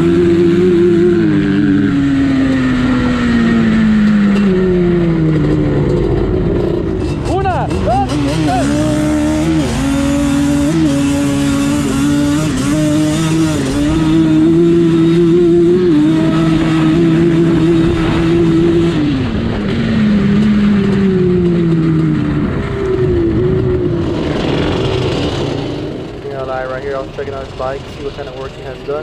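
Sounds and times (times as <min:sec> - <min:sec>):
two-stroke engine at full throttle: 0:00.0 - 0:29.0.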